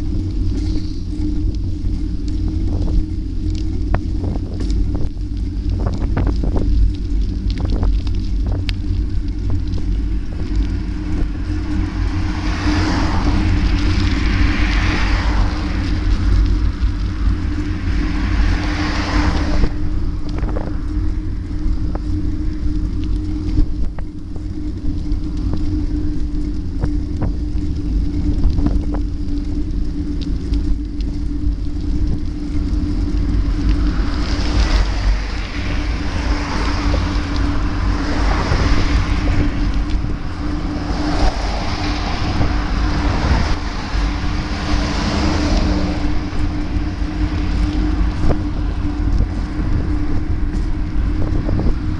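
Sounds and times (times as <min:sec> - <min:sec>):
steady drone: 0:00.0 - 0:51.9
wind buffeting microphone: 0:00.0 - 0:51.9.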